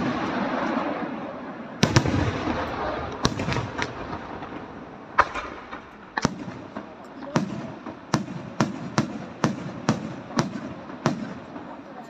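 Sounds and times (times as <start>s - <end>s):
rumbling echo: 0.0s - 11.8s.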